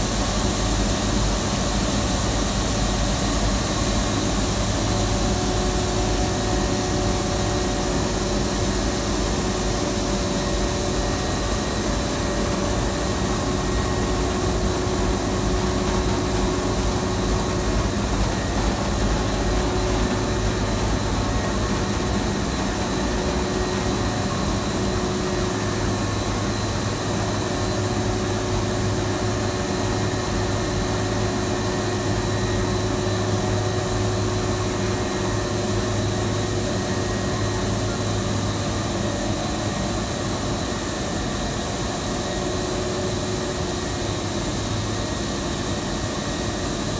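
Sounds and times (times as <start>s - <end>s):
industrial machine running: 0.0s - 46.9s.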